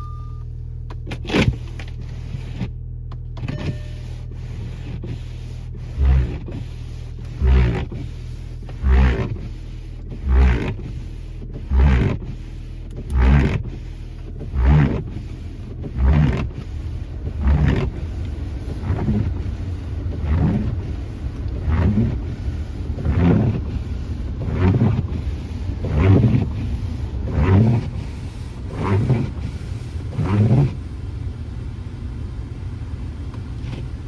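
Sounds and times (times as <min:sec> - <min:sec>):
car engine humming: 0:00.0 - 0:34.0.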